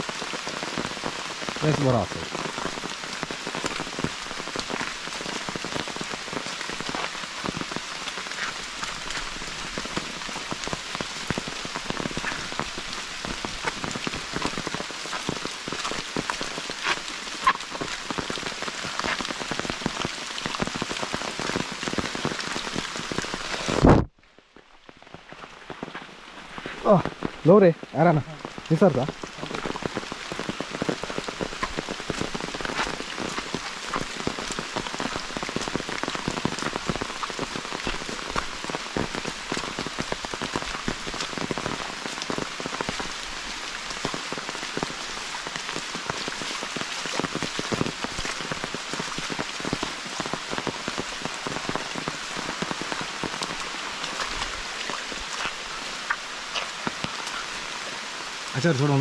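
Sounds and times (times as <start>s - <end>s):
raindrops ticking on surface: 0.0s - 59.0s
steady rain falling: 0.0s - 59.0s.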